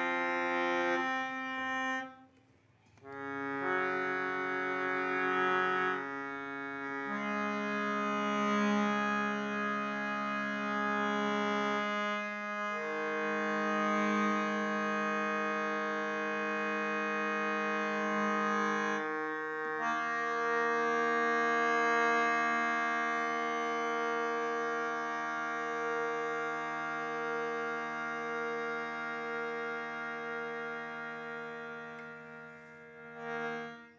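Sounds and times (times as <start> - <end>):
shruti box drone: 0.0 - 2.4, 3.0 - 33.9.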